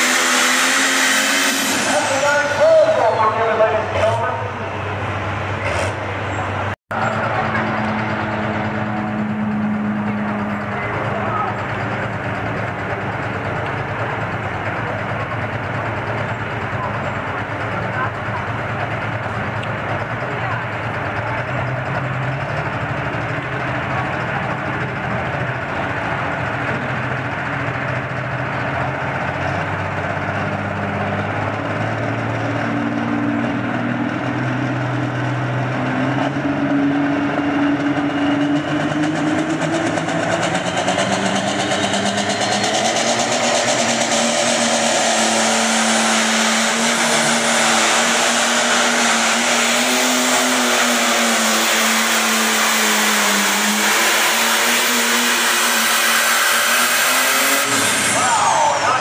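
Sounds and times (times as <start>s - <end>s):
diesel tractor engine revving hard: 0.0s - 59.0s.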